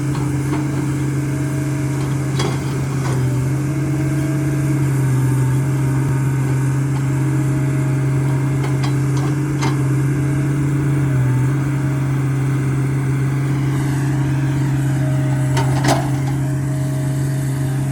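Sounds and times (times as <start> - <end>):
excavator diesel engine: 0.0 - 17.9.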